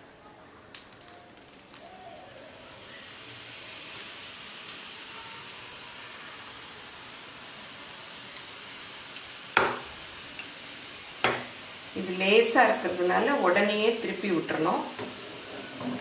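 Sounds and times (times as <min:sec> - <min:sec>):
dough frying in hot oil: 0:00.4 - 0:16.0.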